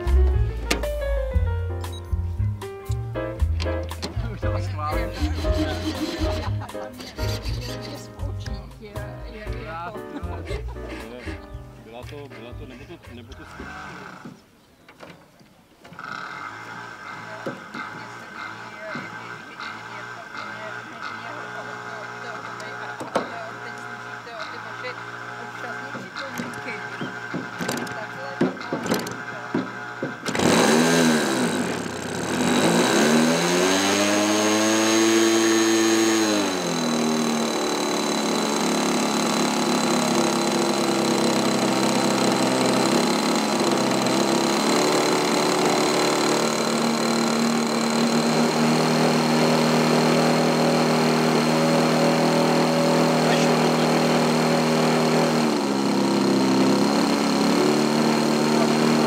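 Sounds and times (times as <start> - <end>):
model airplane engine running: 4.0 - 11.3, 12.4 - 14.5, 15.8 - 59.0.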